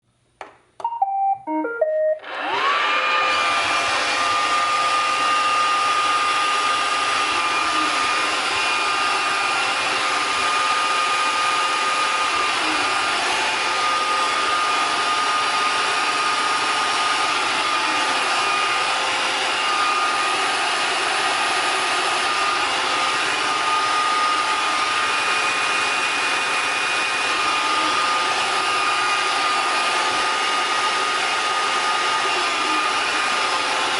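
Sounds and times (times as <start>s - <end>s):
robot vacuum motor whining: 2.2s - 33.9s.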